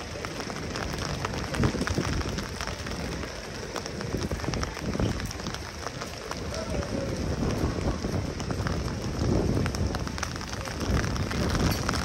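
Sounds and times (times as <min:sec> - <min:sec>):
rain hissing: 0:00.0 - 0:12.0
raindrop ticks: 0:00.0 - 0:12.0.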